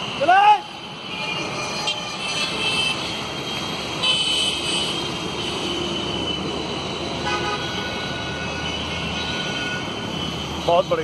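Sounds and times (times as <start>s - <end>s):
street traffic noise: 0.0s - 11.0s
vehicle horns honking: 0.8s - 6.5s, 7.2s - 10.9s.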